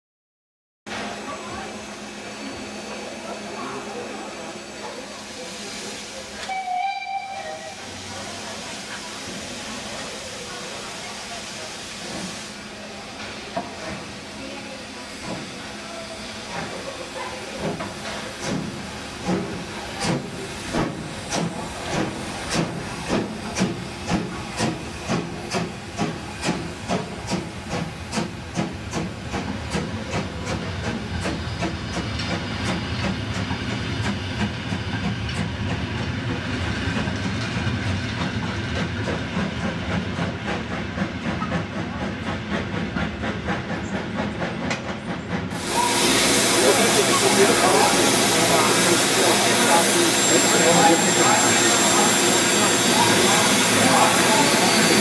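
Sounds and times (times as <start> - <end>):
train rumble: 0.9 - 55.0
steam hissing: 1.2 - 55.0
steam locomotive exhaust chuffs: 2.2 - 55.0.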